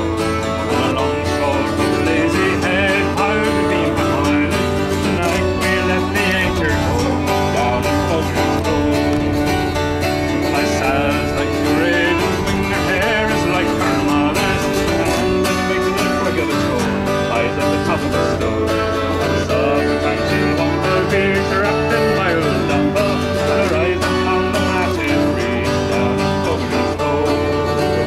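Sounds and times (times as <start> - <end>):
fiddle melody: 0.0 - 28.0
strummed acoustic guitar: 0.0 - 28.0.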